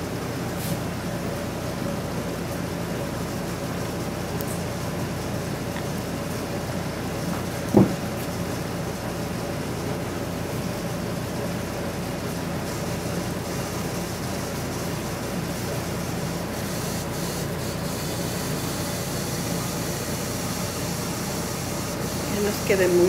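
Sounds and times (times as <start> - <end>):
room hum and hiss: 0.0 - 23.0.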